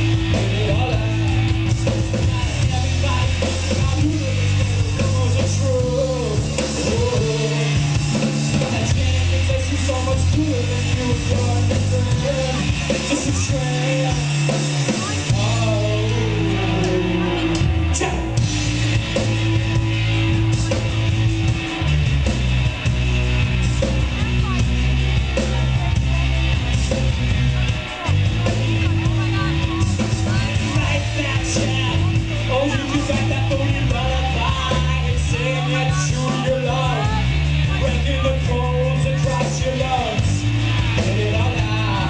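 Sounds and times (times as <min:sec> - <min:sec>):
lead vocal singing: 0:00.0 - 0:21.0, 0:27.6 - 0:42.0
rock band playing: 0:00.0 - 0:42.0.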